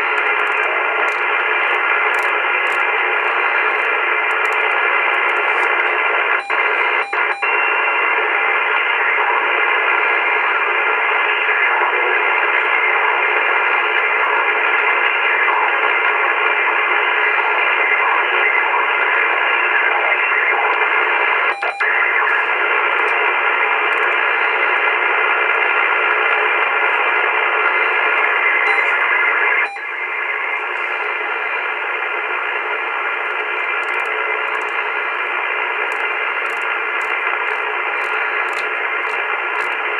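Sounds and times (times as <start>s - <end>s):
radio receiver static hiss: 0.0s - 39.9s.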